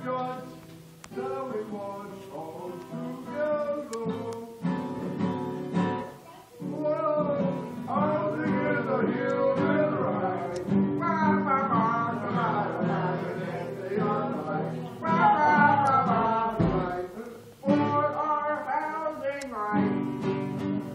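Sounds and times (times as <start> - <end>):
voices singing: 0.0 - 5.0, 6.3 - 20.9
acoustic guitar strumming: 0.0 - 20.9.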